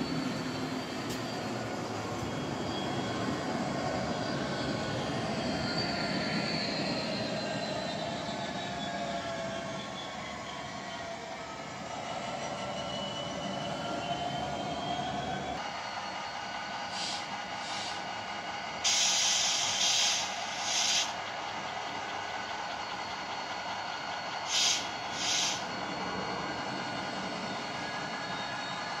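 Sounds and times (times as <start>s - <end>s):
locomotive hissing: 0.0s - 29.0s
model locomotive running sound: 0.0s - 29.0s.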